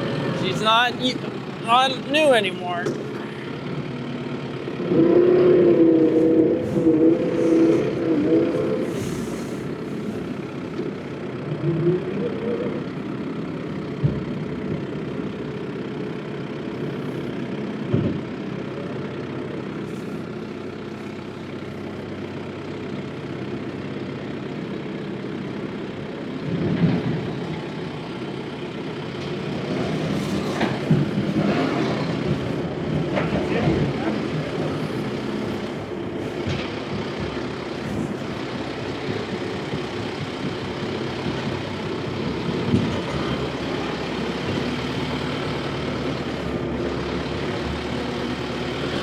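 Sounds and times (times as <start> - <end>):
loader engine running: 0.0 - 49.0.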